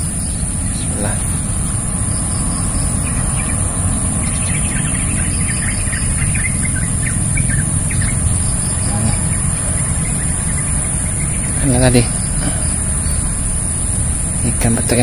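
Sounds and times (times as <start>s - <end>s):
high-pitched hum: 0.0s - 15.0s
steady low rumble: 0.0s - 15.0s.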